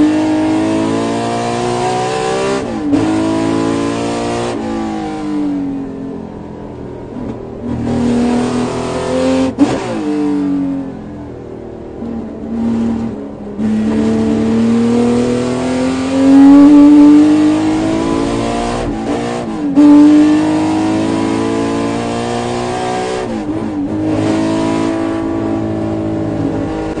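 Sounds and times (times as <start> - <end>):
car engine accelerating through gears: 0.0 - 27.0.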